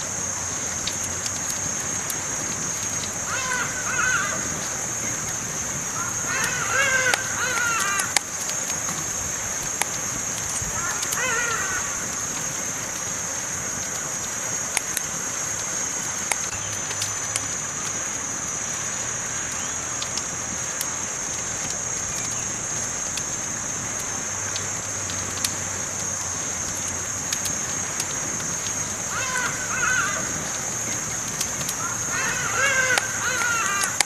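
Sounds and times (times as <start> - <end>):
campfire hissing and crackling: 0.0 - 34.0.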